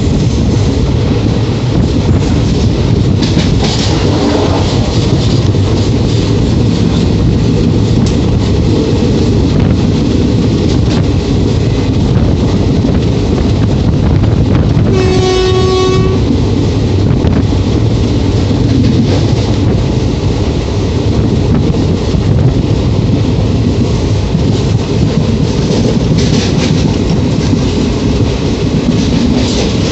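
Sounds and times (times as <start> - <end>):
steady train rumble: 0.0 - 29.9
train wheels clickety-clack: 0.0 - 29.9.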